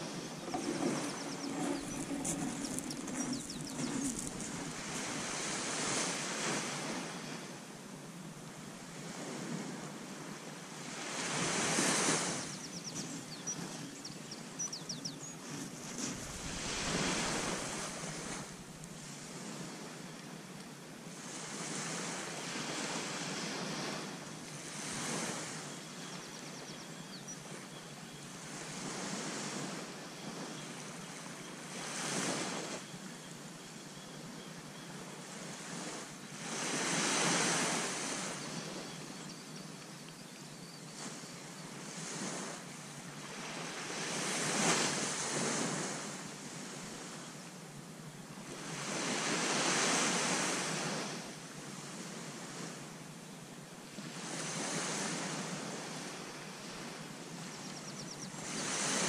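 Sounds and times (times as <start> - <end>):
waves breaking on beach: 0.0 - 26.8, 28.3 - 33.6, 34.2 - 40.0, 40.9 - 59.0
wind: 0.0 - 59.0.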